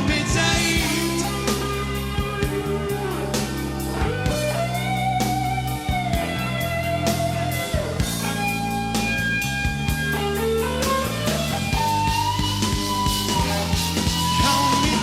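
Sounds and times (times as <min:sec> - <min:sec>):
bass: 0:00.0 - 0:15.0
drum kit steady beat: 0:00.0 - 0:15.0.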